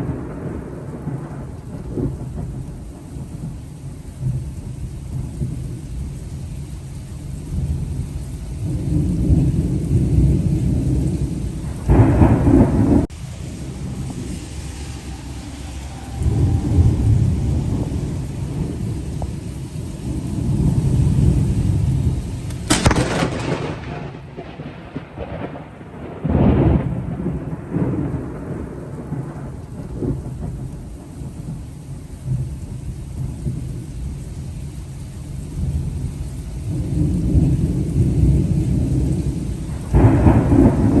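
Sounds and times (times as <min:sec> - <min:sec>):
rain falling: 0:00.0 - 0:41.0
thunder rumbling: 0:00.0 - 0:41.0.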